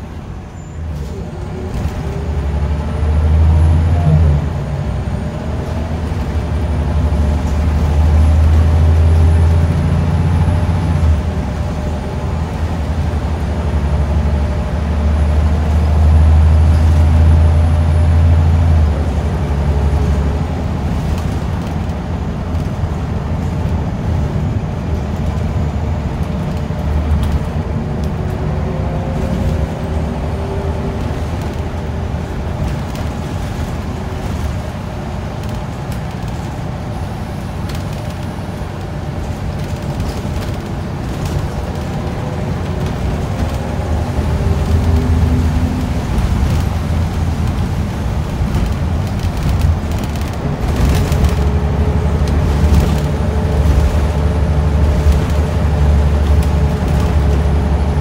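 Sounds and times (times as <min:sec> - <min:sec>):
bus diesel engine droning: 0:00.0 - 0:58.0
road noise: 0:00.0 - 0:58.0.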